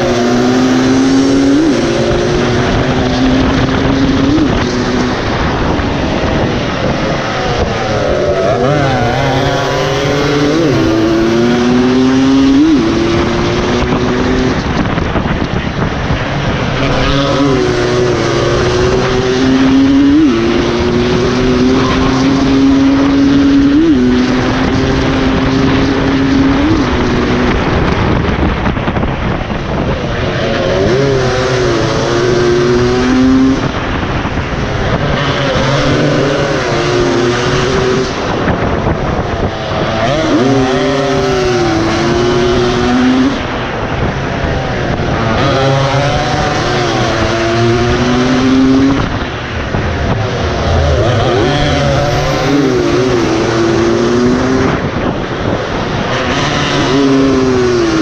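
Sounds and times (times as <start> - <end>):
dirt bike engine revving: 0.0 - 15.0, 16.7 - 28.4, 30.0 - 58.0.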